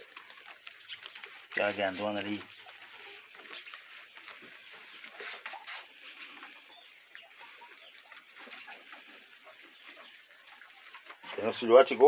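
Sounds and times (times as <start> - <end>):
animals clucking and chirping: 0.0 - 12.0
rustles and clicks in hay: 0.0 - 12.0.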